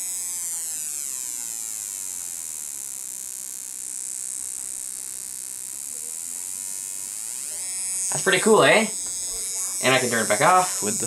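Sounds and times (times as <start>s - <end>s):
buzzy electronic tone: 0.0s - 11.0s.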